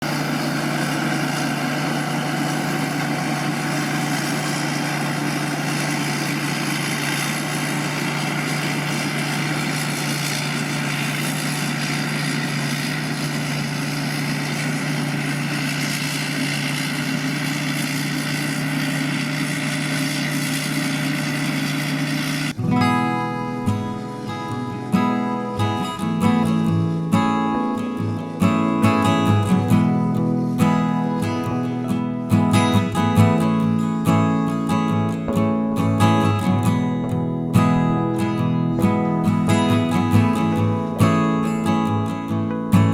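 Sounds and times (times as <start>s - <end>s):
combine harvester running: 0.0s - 42.9s.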